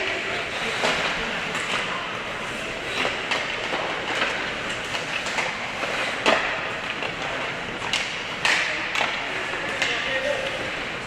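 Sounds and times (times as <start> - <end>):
crowd noise: 0.0 - 11.0
hockey sticks and puck clacking: 0.0 - 11.0.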